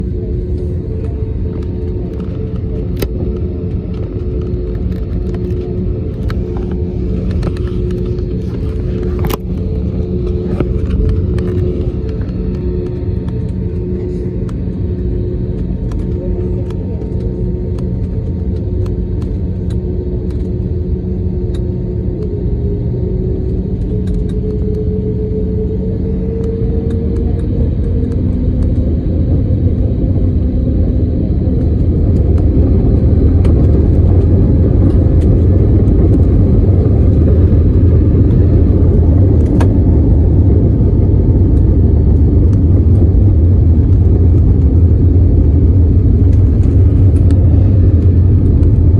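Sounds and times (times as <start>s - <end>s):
low rumble: 0.0s - 48.9s.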